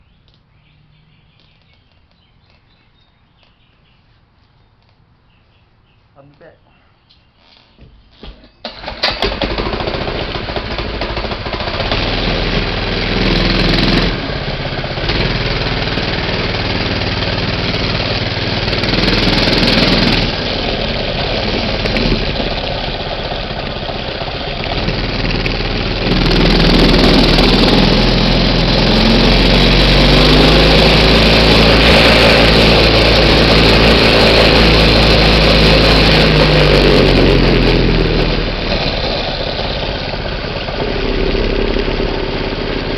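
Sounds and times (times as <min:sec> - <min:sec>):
small engine starting and running: 0:08.5 - 0:42.9.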